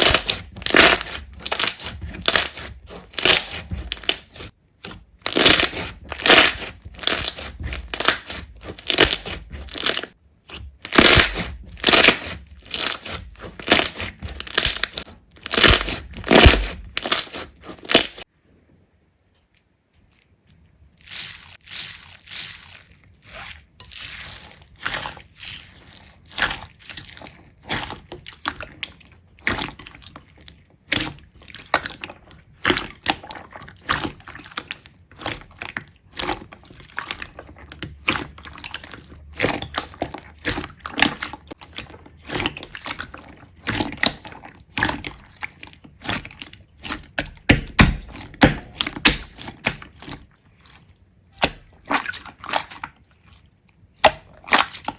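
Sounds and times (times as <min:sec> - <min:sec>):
slime squelching by hand: 0:00.0 - 0:18.3, 0:19.5 - 0:54.9.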